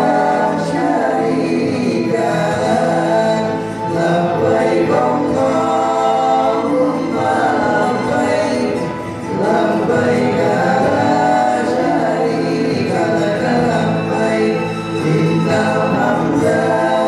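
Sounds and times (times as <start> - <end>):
male vocal group singing harmony: 0.0 - 17.0.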